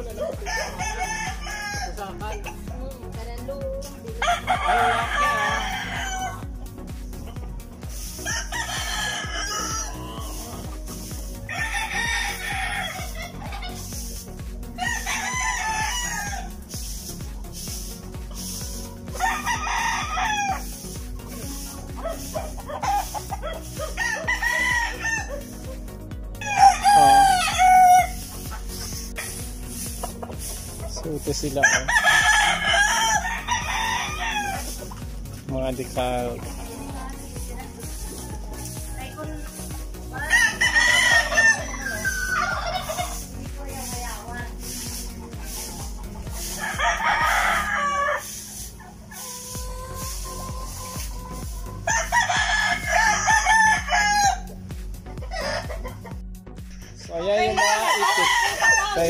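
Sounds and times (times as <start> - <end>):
roosters crowing: 0.0 - 2.6, 4.2 - 56.3, 57.3 - 59.0
background music with steady beat: 0.0 - 59.0
chickens clucking: 4.2 - 56.2.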